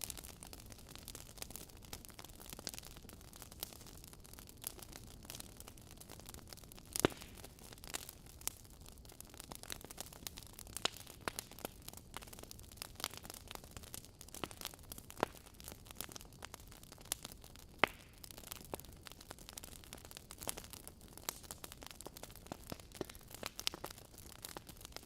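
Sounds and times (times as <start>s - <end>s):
fire crackling and popping: 0.0s - 25.0s
low steady hiss: 0.0s - 25.0s.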